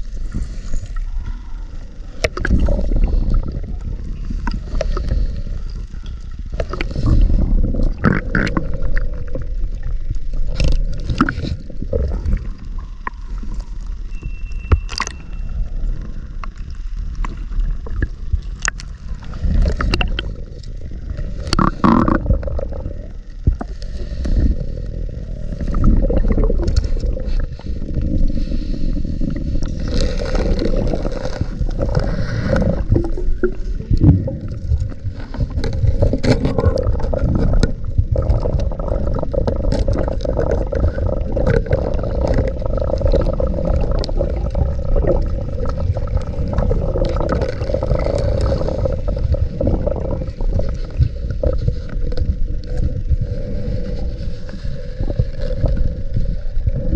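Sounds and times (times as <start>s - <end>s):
regulator bubbles underwater: 0.0s - 56.9s.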